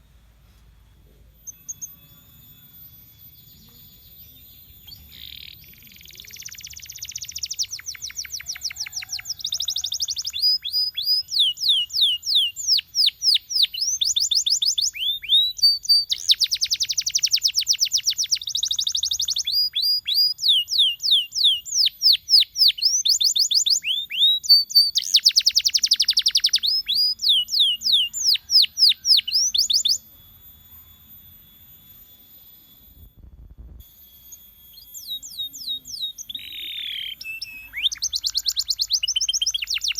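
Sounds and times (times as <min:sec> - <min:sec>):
canary singing trills: 0:01.2 - 0:39.9.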